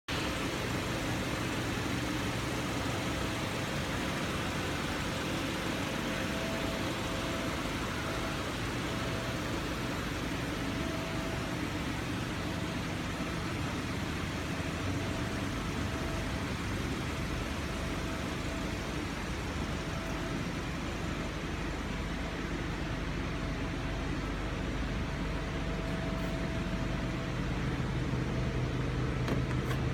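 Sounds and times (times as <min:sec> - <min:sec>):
car engine running steadily: 0:00.1 - 0:29.9.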